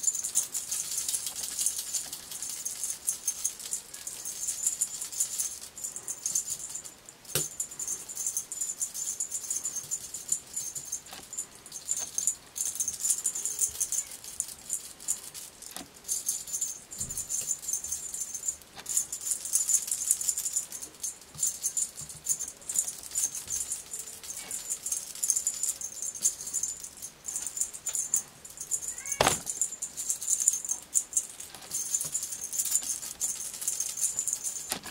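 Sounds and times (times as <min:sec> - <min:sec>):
high-pitched shaking rattle: 0:00.0 - 0:34.9.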